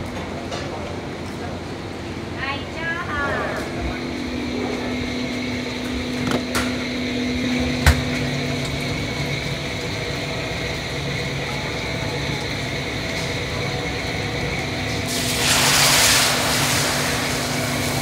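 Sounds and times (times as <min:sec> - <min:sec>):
kitchen fans humming: 0:00.0 - 0:18.0
gas burners hissing: 0:01.4 - 0:18.0.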